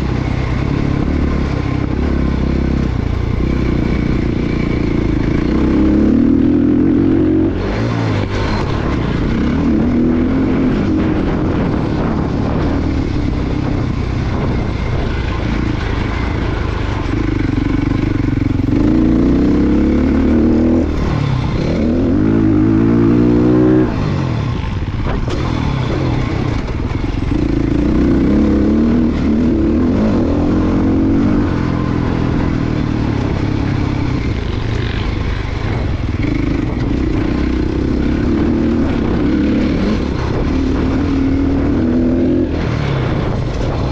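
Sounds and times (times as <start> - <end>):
dirt bike engine running hard: 0.0 - 43.9.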